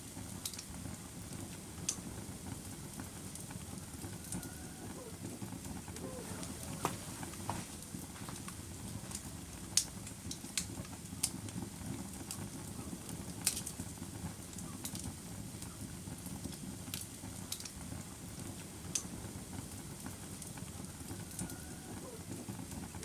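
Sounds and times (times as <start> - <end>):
fire pops and snaps: 0.0 - 4.4, 5.5 - 21.6
wood fire crackling: 0.0 - 23.0.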